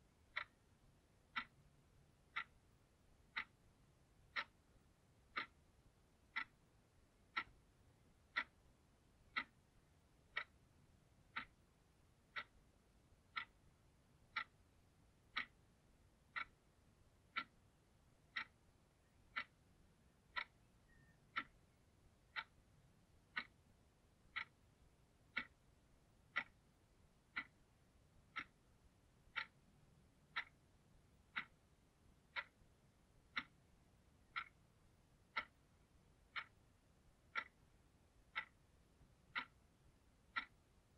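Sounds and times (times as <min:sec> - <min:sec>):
alarm clock ticking: 0:00.1 - 0:40.9.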